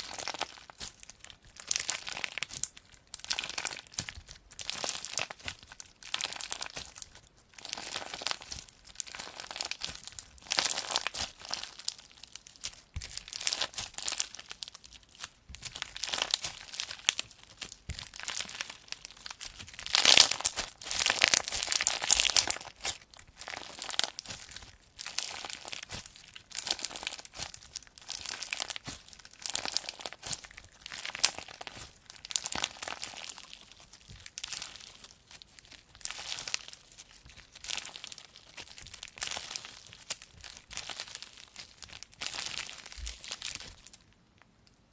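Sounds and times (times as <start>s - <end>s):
slime squishing: 0.0s - 44.2s.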